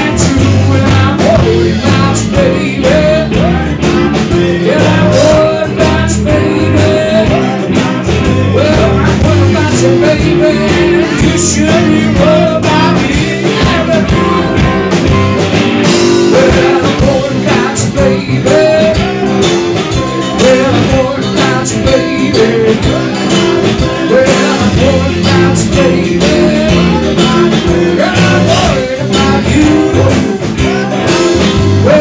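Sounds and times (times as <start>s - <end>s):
blues band playing: 0.0s - 32.0s.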